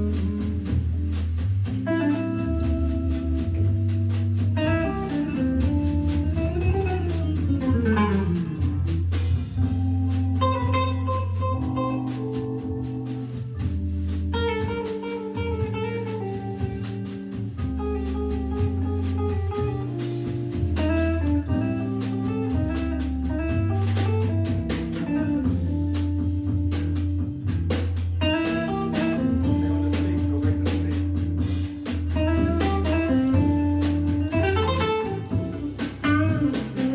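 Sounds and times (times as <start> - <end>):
drum kit cymbal pulse: 0.0 - 36.9
organ chords and bass notes: 0.0 - 36.9
guitar line: 1.7 - 36.9.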